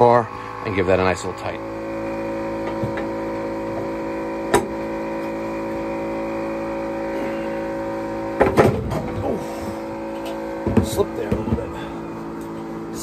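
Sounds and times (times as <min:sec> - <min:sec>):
electric pump humming: 0:00.0 - 0:13.0.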